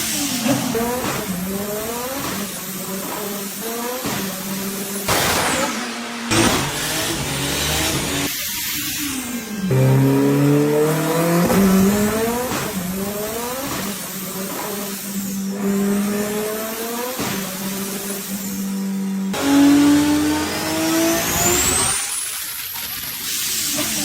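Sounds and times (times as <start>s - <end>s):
turbocharged car engine revving: 0.0s - 24.0s.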